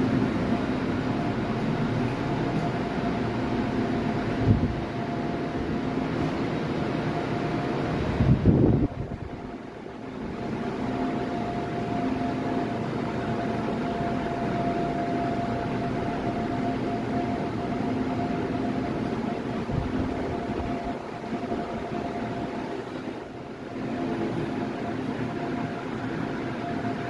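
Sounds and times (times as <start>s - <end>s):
steady whine: 0.0s - 27.0s
subway car ventilation hum: 0.0s - 27.0s.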